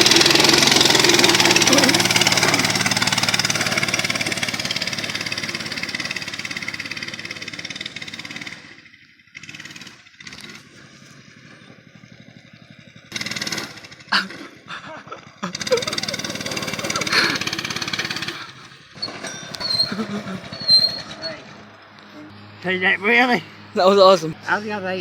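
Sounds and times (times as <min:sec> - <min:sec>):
small motorbike engine running: 0:00.0 - 0:25.0.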